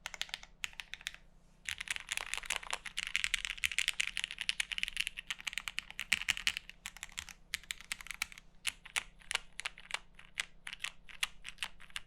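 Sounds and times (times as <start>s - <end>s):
mechanical keyboard keystrokes: 0.0s - 12.0s.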